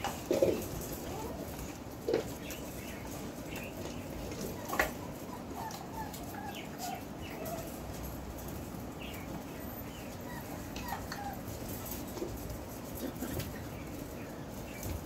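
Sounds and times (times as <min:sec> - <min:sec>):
puppies squeaking and whimpering: 0:00.0 - 0:12.4
paws and toys tapping on tile: 0:00.0 - 0:14.1.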